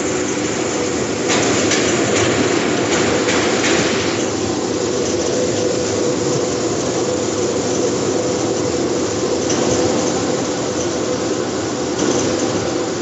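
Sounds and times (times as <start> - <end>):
vegetable washing machine drone: 0.0 - 13.0.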